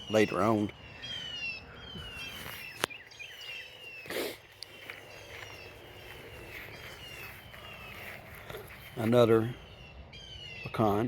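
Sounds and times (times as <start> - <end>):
birds whistling descending notes: 0.0 - 11.0.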